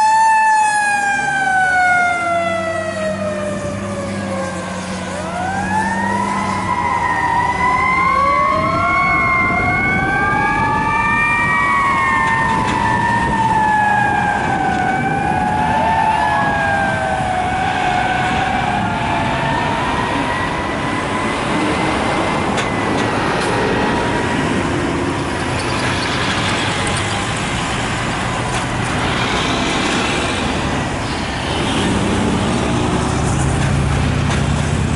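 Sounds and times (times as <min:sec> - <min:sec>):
fire truck sirens wailing: 0:00.0 - 0:34.9
passing road traffic: 0:00.0 - 0:34.9.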